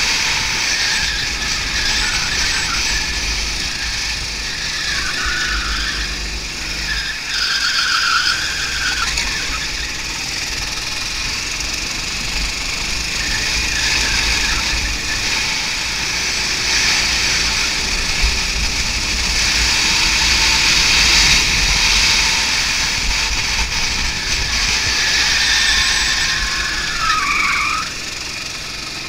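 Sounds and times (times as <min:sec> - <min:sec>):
go-kart engine racing: 0:00.0 - 0:29.0.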